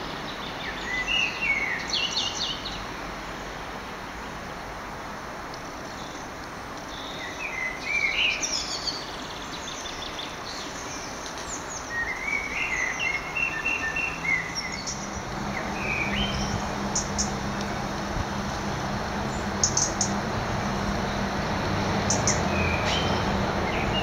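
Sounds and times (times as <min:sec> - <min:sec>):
outdoor background noise: 0:00.0 - 0:24.0
songbirds chirping: 0:00.0 - 0:24.0.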